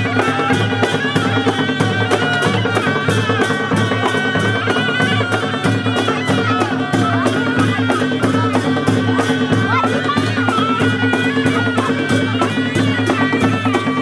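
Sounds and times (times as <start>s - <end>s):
drums and cymbals beat: 0.0s - 14.0s.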